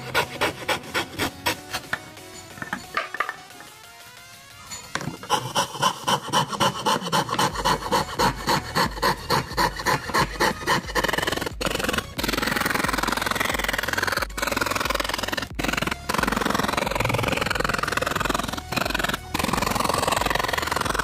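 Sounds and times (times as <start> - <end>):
fretsaw cutting plywood: 0.0 - 2.8, 4.9 - 21.0.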